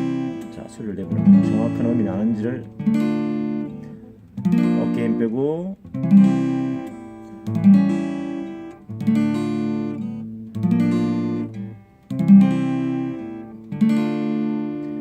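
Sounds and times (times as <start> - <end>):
acoustic guitar chords ringing: 0.0 - 15.0.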